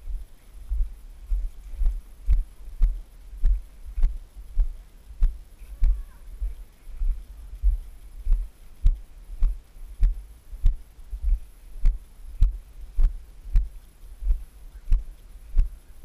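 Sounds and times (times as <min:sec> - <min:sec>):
footsteps on grass and leaves: 0:00.0 - 0:16.0.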